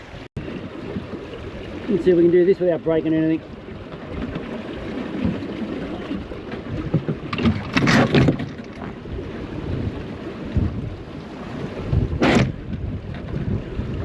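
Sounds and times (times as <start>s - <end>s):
water rushing along boat hull: 0.0s - 14.0s
wind buffeting microphone: 0.0s - 14.0s.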